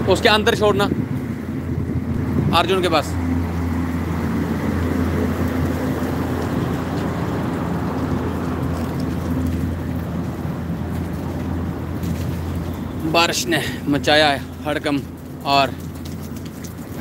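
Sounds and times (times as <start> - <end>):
condenser fan units humming: 0.0 - 17.0.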